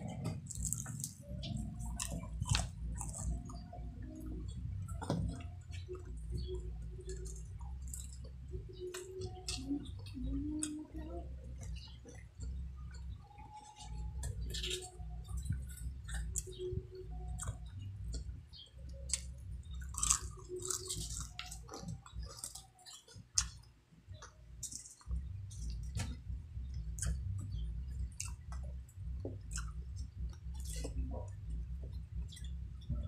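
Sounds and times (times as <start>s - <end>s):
wet mouth sounds: 0.0s - 23.6s, 26.8s - 33.0s
crunchy chewing: 0.0s - 32.6s.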